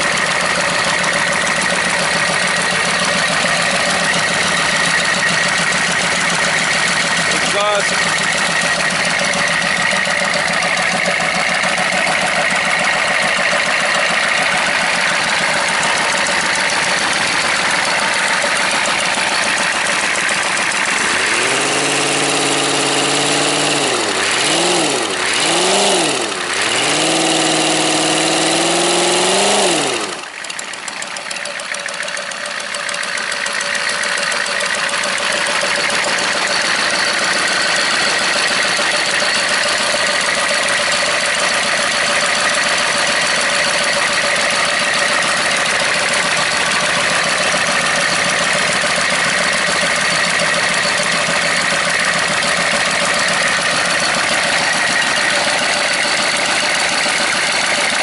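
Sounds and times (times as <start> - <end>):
diesel engine idling and revving: 0.0 - 58.0.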